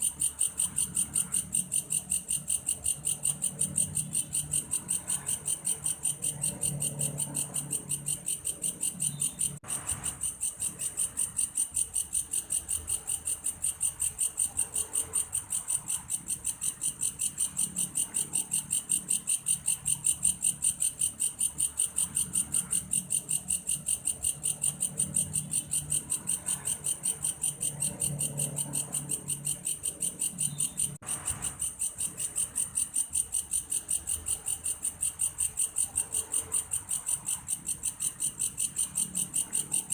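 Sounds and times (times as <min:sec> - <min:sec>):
grasshopper pulsing trill: 0:00.0 - 0:39.9.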